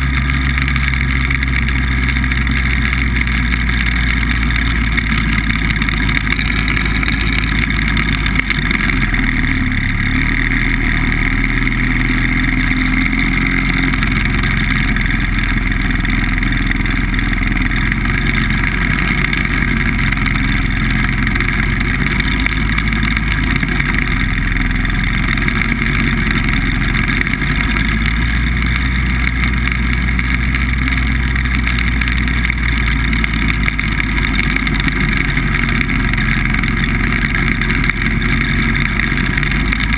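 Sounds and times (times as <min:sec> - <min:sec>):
hovercraft engine and fan drone: 0:00.0 - 0:39.9.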